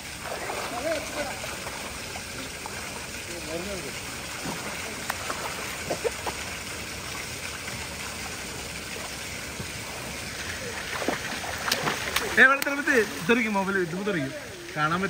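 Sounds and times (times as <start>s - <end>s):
pool water splashing: 0.0s - 15.0s
steady rush of water: 0.0s - 15.0s.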